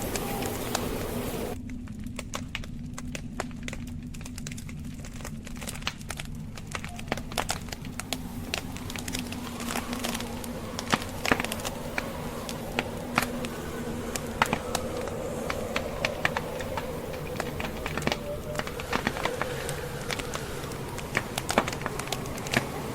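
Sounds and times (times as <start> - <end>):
blizzard wind rumble: 0.0 - 22.9
log fire crackling: 0.0 - 22.9.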